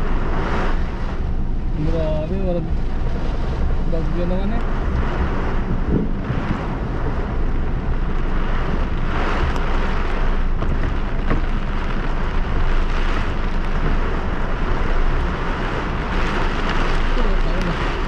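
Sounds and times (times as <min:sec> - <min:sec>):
deep rumble: 0:00.0 - 0:18.0
heavy rain and wind on car: 0:00.0 - 0:18.0.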